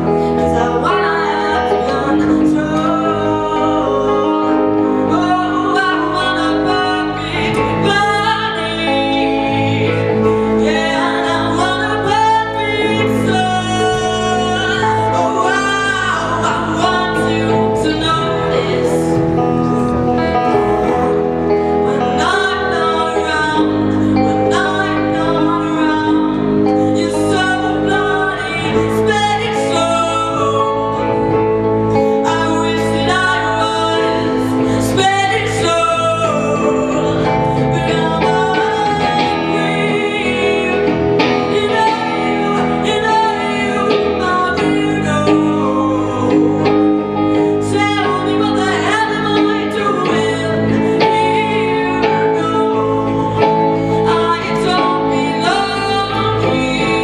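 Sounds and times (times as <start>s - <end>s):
band with guitar: 0.0s - 57.0s
woman singing into microphone: 0.0s - 57.0s.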